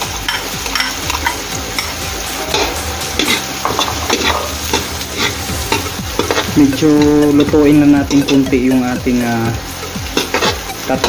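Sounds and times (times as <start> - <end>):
metal ladle scraping wok: 0.0 - 9.0, 9.7 - 11.0
food sizzling in hot oil: 0.0 - 11.0.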